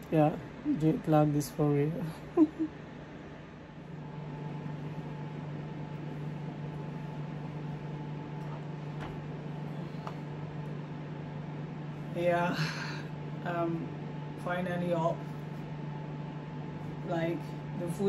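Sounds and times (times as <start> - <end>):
low machine hum with hiss: 0.0 - 18.0.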